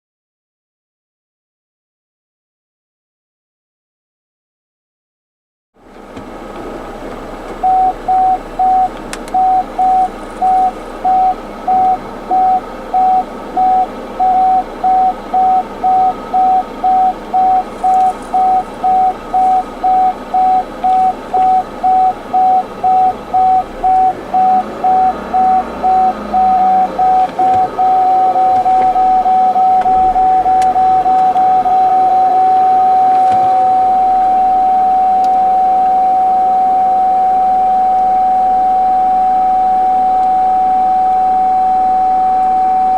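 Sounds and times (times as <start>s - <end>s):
engine hum: 5.8s - 42.9s
car reversing beeper: 7.6s - 42.9s.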